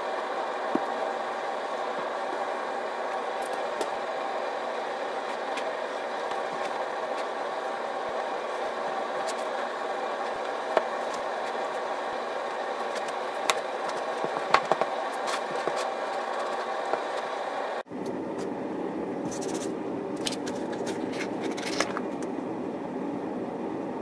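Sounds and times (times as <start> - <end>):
steady mechanical drone: 0.0 - 24.0.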